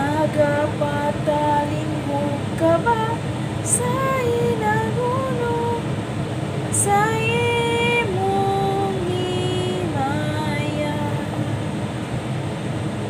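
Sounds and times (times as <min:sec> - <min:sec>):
woman singing slow melody: 0:00.0 - 0:06.0, 0:06.7 - 0:11.6
steady low hum: 0:00.0 - 0:13.0.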